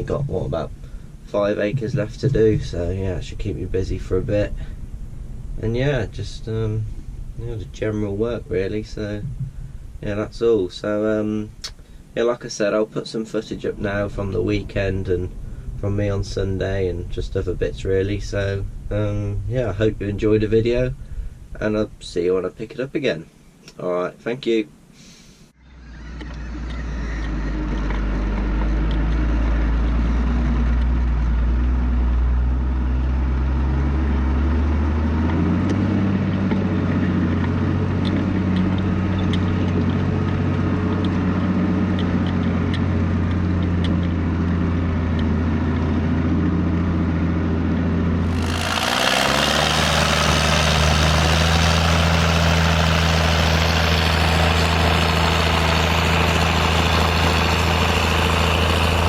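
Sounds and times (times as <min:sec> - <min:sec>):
tractor diesel engine running: 0:00.0 - 0:12.2, 0:13.5 - 0:22.1, 0:25.6 - 0:59.0.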